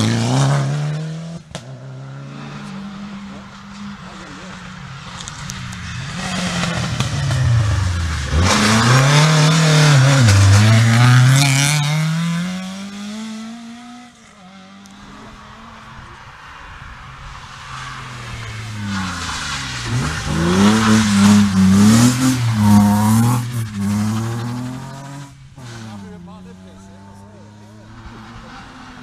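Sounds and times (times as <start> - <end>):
rally car approaching: 0.0 - 29.0
rally car passing at speed: 0.0 - 29.0.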